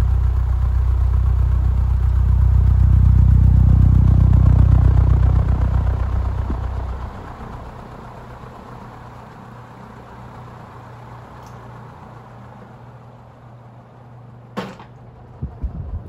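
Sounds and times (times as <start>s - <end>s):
ceiling fan motor hum: 0.0s - 16.0s
fan blades rushing: 0.0s - 16.0s.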